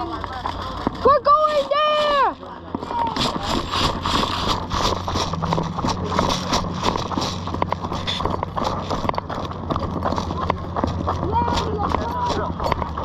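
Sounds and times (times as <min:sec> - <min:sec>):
footsteps on rough ground: 0:00.0 - 0:13.0
low hum: 0:02.3 - 0:13.0.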